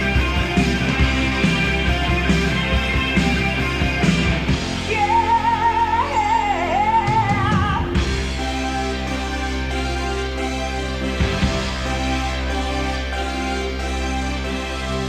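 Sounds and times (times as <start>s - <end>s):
background music with steady beat: 0.0s - 15.0s
wavering lead melody: 0.0s - 15.0s.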